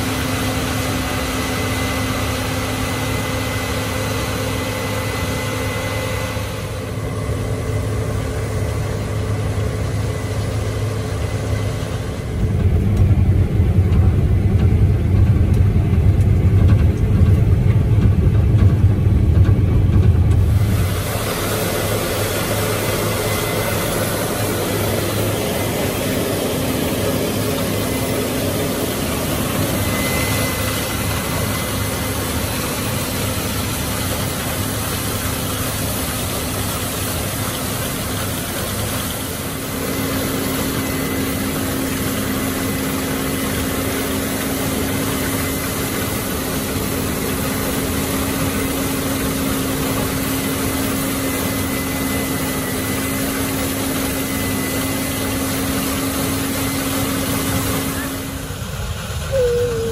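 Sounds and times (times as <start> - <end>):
combine harvester working: 0.0 - 59.9
tractor engine drone: 0.0 - 59.9.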